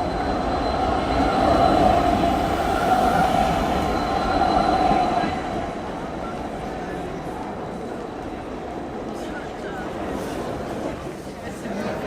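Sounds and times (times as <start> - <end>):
tram rumbling past on rails: 0.0 - 12.0.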